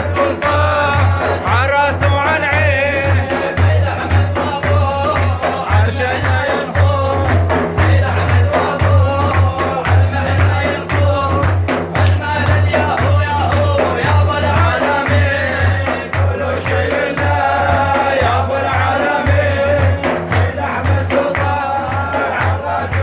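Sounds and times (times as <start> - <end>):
low drum beat: 0.0 - 23.0
man singing: 0.0 - 23.0.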